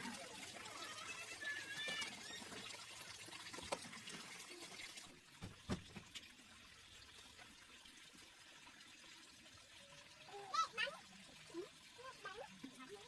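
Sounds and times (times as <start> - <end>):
faint running water: 0.0 - 13.0.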